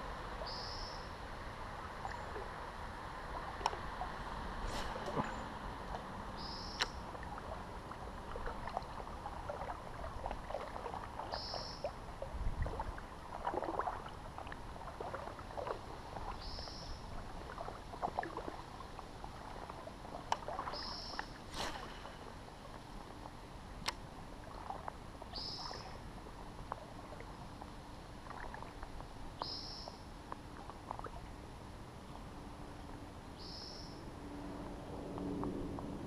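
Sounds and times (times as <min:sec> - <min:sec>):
water lapping and splashing: 0:01.2 - 0:31.5.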